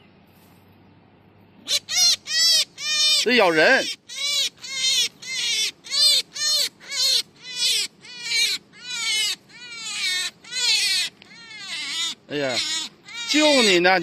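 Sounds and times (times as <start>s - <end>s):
rabbit distress screams: 1.7s - 14.0s.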